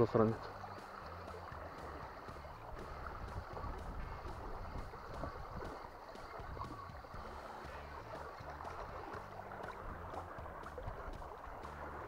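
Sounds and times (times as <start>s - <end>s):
water rushing over river riffle: 0.0s - 12.0s.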